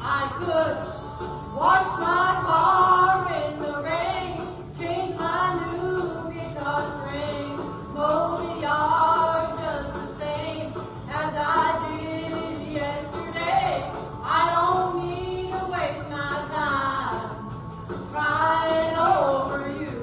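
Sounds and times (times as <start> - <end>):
musical accompaniment: 0.0 - 20.0
woman singing a country song: 0.0 - 20.0.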